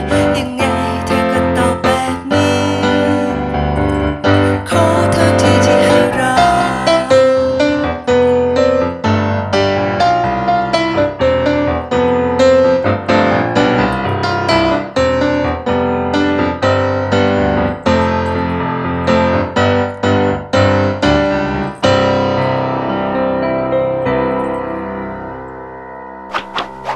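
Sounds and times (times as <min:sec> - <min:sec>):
piano chords: 0:00.0 - 0:26.9.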